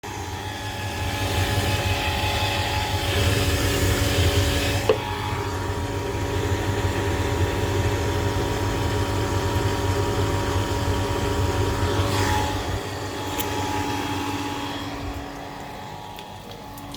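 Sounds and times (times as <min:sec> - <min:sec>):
pump motor humming: 0:00.0 - 0:16.9.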